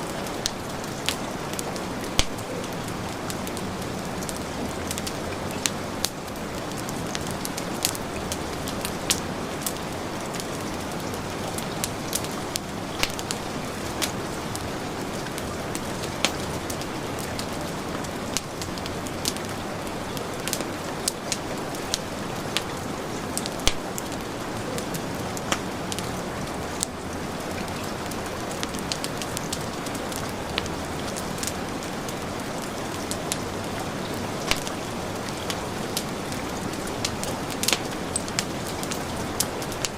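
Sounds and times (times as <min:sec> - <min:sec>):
heavy rain falling: 0:00.0 - 0:39.9
wood fire crackling and popping: 0:00.0 - 0:39.9.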